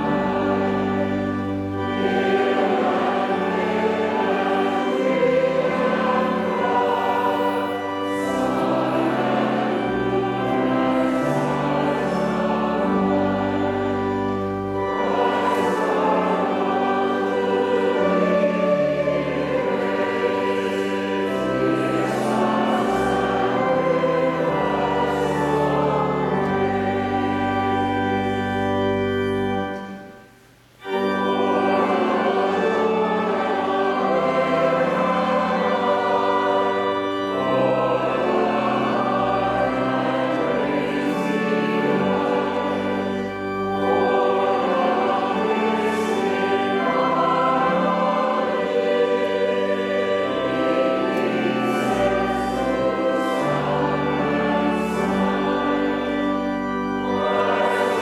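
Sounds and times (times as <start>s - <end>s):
choir and congregation singing hymn: 0.0s - 58.0s
organ playing: 0.0s - 58.0s.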